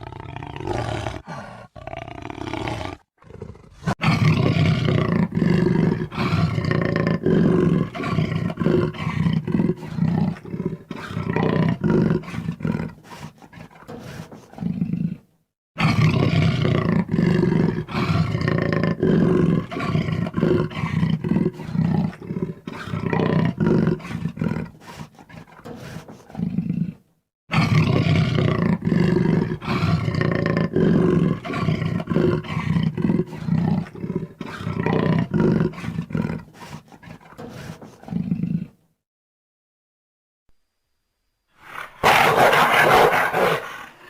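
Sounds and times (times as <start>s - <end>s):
jaguar roaring: 0.0s - 38.8s, 41.6s - 44.0s.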